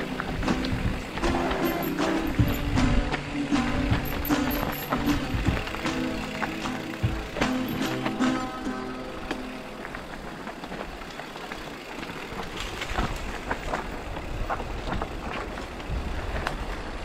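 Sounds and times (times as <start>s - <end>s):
bike clicking and rattling: 0.0s - 17.0s
bike tyres on loose gravel: 0.0s - 17.0s.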